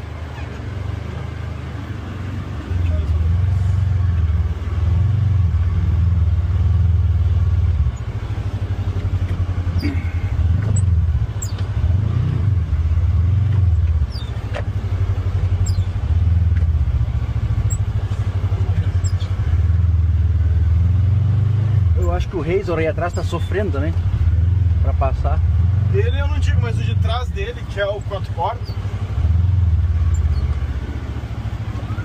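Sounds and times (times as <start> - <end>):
utility vehicle engine revving: 0.0 - 32.0.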